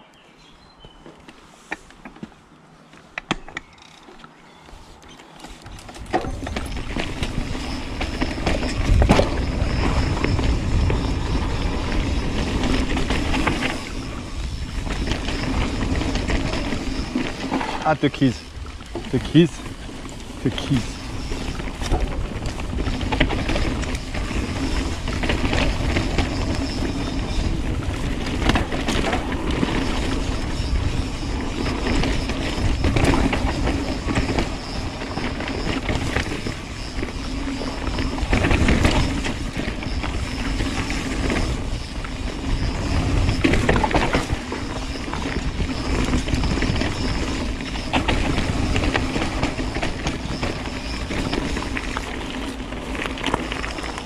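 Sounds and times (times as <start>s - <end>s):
bike tyres rumbling on dirt trail: 0.4s - 54.0s
bike knocking and rattling: 0.8s - 54.0s
wind on microphone: 5.6s - 54.0s.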